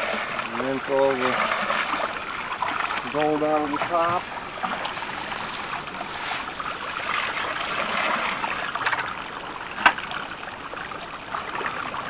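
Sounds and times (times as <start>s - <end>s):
water pouring down a sluice box: 0.0s - 12.0s.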